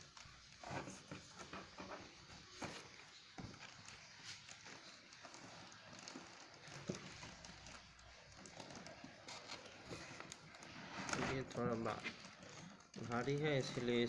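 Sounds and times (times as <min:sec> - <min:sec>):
cardboard and plastic rustling: 0:00.0 - 0:14.0.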